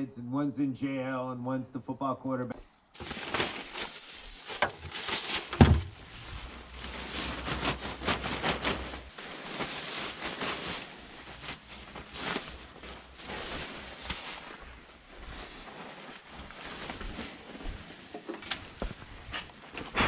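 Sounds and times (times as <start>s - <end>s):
protective suit rustling: 3.0s - 20.0s.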